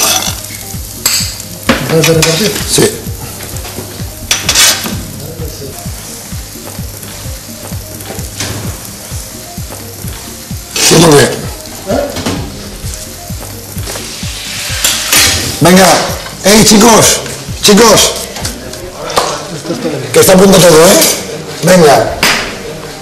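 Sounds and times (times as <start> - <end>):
food sizzling in a pan: 0.0 - 22.9.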